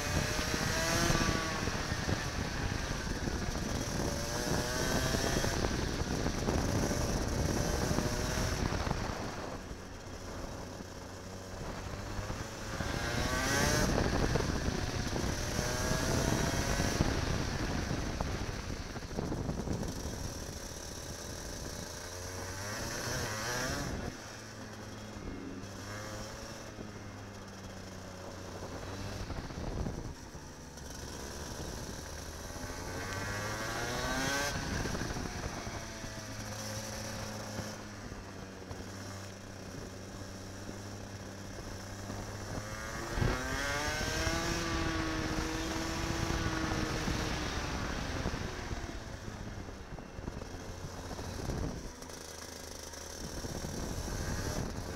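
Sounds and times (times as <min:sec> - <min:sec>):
kart engine accelerating and slowing: 0:00.0 - 0:54.9.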